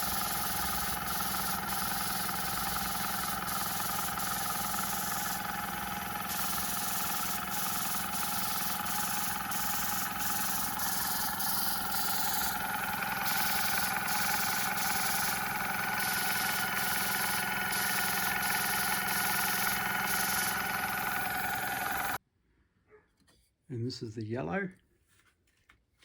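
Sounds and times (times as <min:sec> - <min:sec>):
air hissing from spray gun: 0:00.0 - 0:22.2
airbrush compressor humming: 0:00.0 - 0:22.2.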